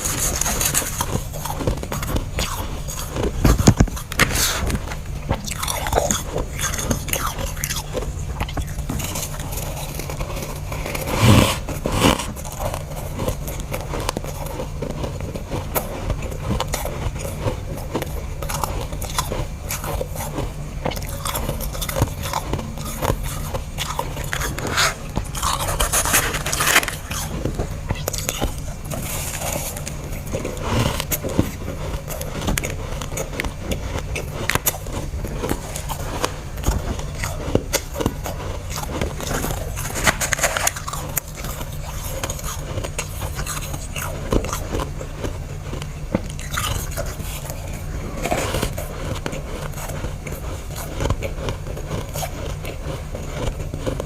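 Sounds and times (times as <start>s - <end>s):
person chewing crunchy frost: 0.0s - 54.0s.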